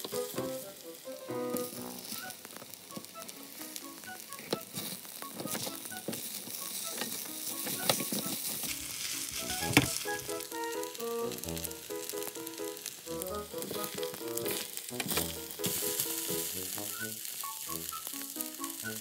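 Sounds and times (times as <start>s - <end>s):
light plucked background music: 0.0s - 19.0s
rice sizzling in a frying pan: 0.0s - 19.0s.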